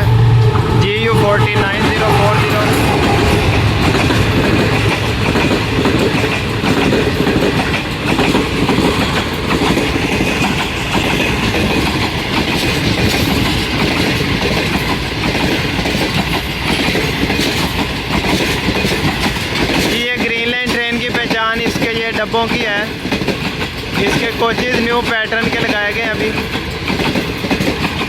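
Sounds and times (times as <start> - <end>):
train passing at speed: 0.0 - 28.0
wheels clattering over rail joints: 1.8 - 28.0.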